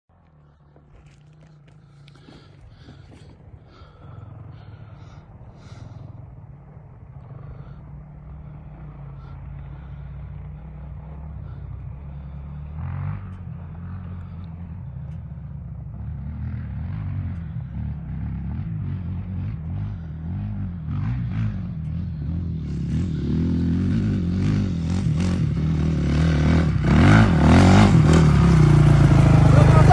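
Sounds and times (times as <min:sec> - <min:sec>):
dirt bike engine running: 0:00.1 - 0:29.9.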